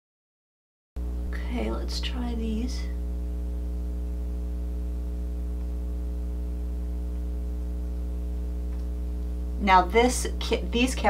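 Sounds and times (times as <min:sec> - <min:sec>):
mains hum: 0:01.0 - 0:11.0.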